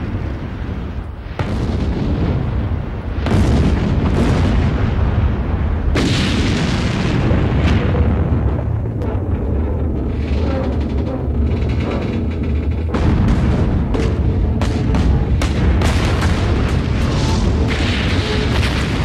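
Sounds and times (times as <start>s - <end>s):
explosion blasts: 0.0s - 10.4s, 12.8s - 19.0s
deep rumble: 0.0s - 19.0s.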